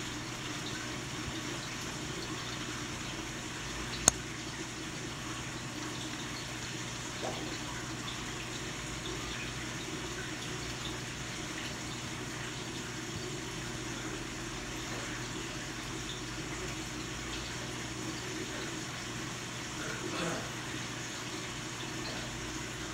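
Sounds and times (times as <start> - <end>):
aquarium water rushing: 0.0 - 22.9.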